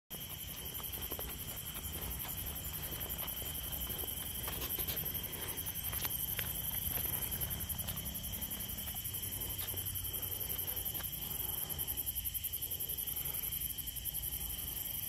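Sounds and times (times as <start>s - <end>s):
steady high insect trill: 0.1s - 15.0s
pulsing shrill insect call: 0.2s - 15.0s.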